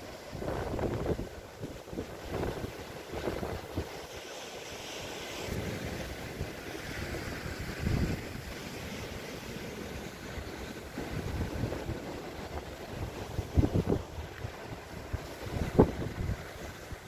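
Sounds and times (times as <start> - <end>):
sea surf on rocks: 0.0 - 17.0
wind buffeting microphone: 0.3 - 4.0, 5.4 - 8.9, 10.0 - 17.0.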